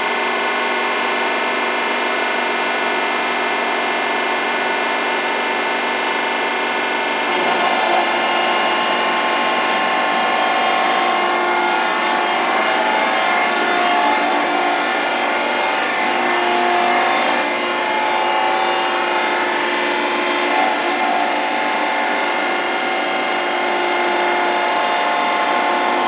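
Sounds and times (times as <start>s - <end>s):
surface grinder whining: 0.1s - 26.0s.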